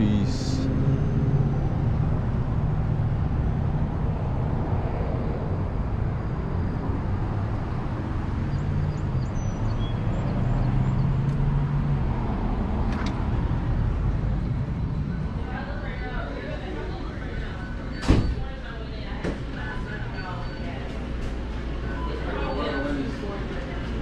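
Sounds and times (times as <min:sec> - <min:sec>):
road vehicle rumble: 0:00.0 - 0:24.0.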